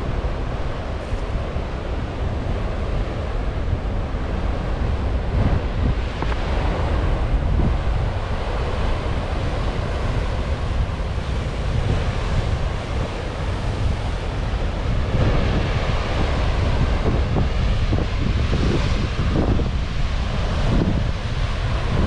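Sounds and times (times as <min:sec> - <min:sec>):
surf crashing on rocks: 0:00.0 - 0:22.0
wind buffeting microphone: 0:00.0 - 0:22.0.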